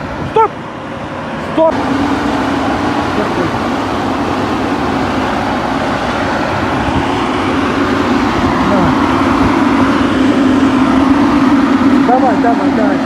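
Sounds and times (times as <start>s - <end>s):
farm machine engine running: 0.0s - 13.0s.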